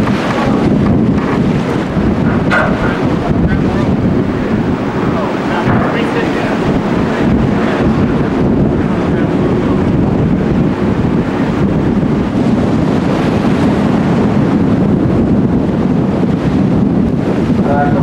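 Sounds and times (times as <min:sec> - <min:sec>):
sea water rushing along hull: 0:00.0 - 0:18.0
wind buffeting microphone: 0:00.0 - 0:18.0.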